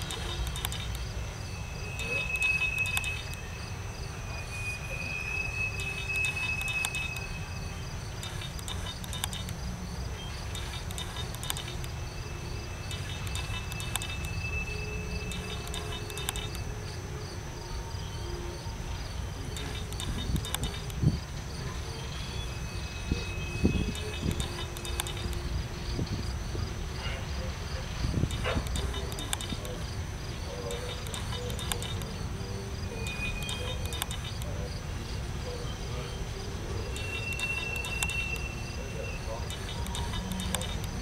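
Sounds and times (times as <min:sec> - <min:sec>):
insects chirping: 0:00.0 - 0:41.0
train wheels rumbling on rail: 0:00.0 - 0:41.0.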